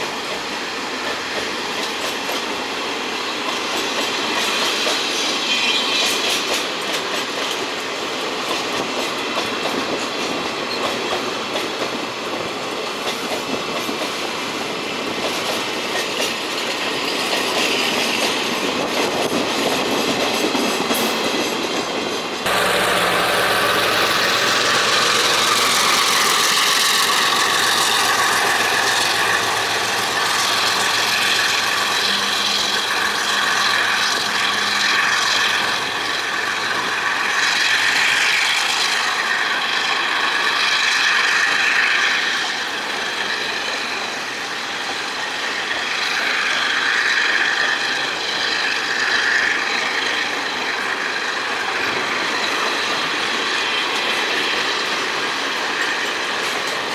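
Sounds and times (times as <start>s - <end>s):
train wheels rumbling: 0.0s - 56.9s.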